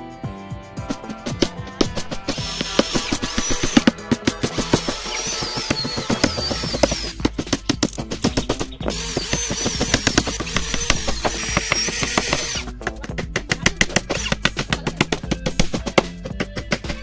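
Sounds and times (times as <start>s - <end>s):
electronic music with quick beat: 0.8s - 17.0s.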